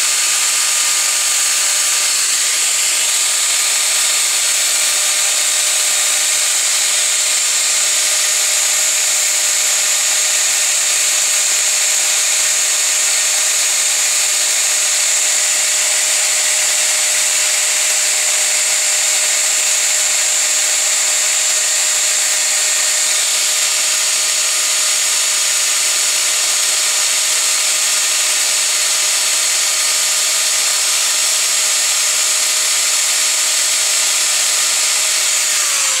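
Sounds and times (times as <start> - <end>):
angle grinder sanding wood: 0.0 - 36.0.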